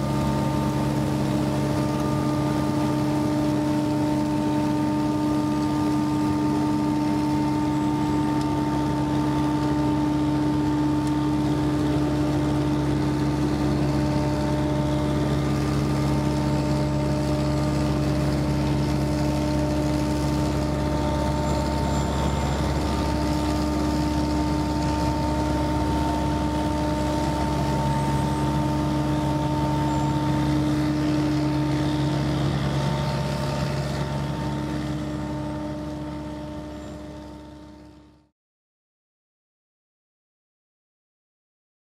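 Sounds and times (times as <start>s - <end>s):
street sweeper engine and blower: 0.0s - 38.3s.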